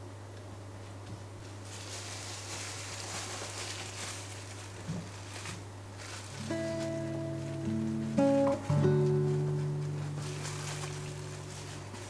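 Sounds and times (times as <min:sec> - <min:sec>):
steady low hum: 0:00.0 - 0:12.0
plastic cling wrap crinkling: 0:01.4 - 0:12.0.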